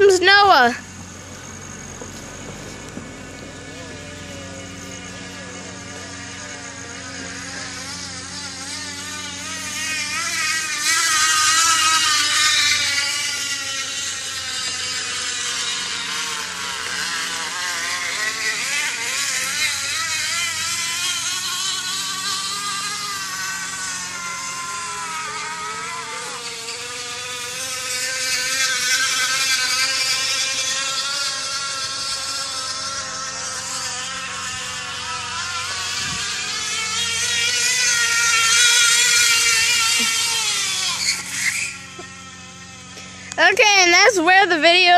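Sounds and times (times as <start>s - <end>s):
bottle buzzing in bicycle spokes: 0.0s - 44.9s.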